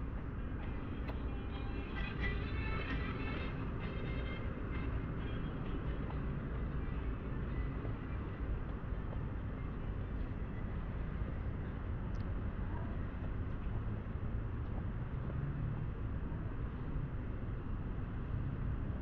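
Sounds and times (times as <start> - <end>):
distant road traffic hum: 0.0 - 19.0.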